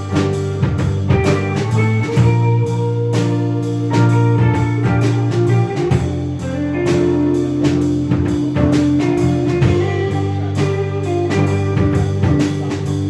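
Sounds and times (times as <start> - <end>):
drum-kit beat: 0.0 - 13.0
guitar: 0.0 - 13.0
live pop rock band playing: 0.0 - 13.0.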